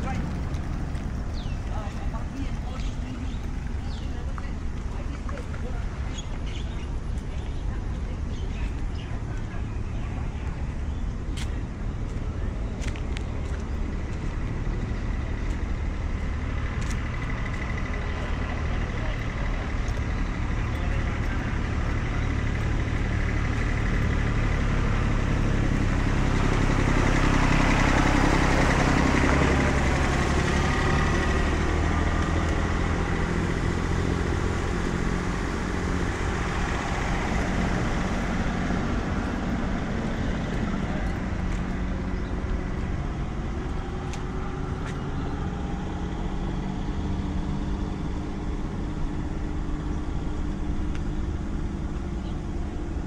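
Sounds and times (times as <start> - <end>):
road traffic rumbling: 0.0 - 53.0.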